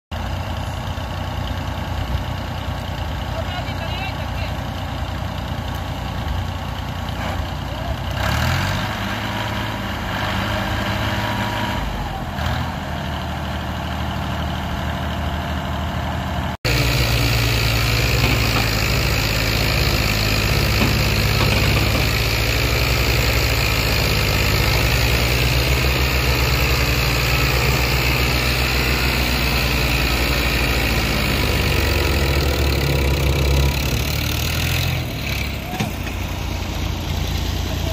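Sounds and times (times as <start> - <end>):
tractor diesel engine under load: 0.1 - 37.9.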